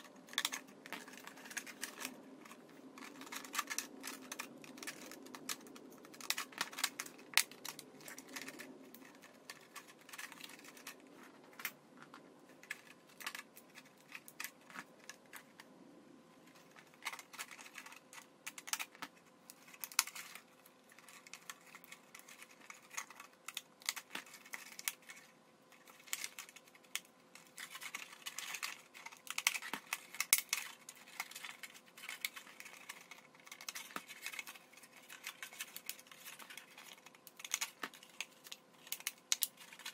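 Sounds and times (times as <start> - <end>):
plastic crackling and clicking: 0.0 - 15.7, 16.4 - 39.9.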